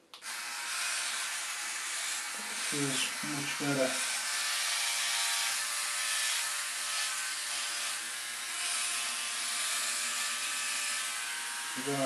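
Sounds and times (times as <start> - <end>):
electric shaver buzzing: 0.2 - 12.0.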